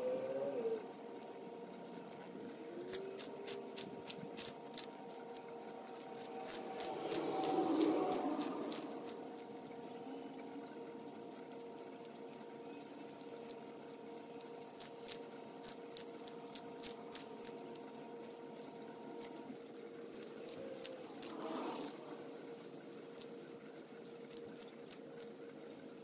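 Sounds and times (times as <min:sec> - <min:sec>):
steady high hum: 0:00.0 - 0:26.0
tortoise biting lettuce: 0:02.7 - 0:11.8, 0:13.4 - 0:26.0.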